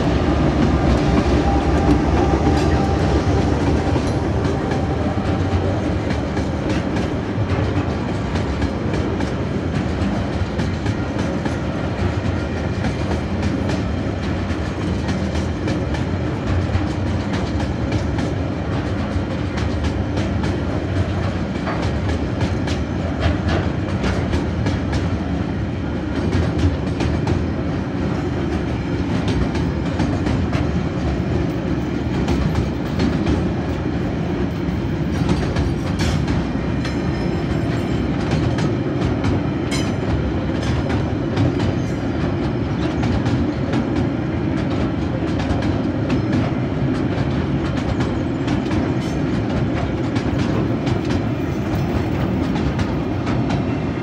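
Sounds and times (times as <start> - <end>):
freight wagons rumbling on rails: 0.0 - 54.0.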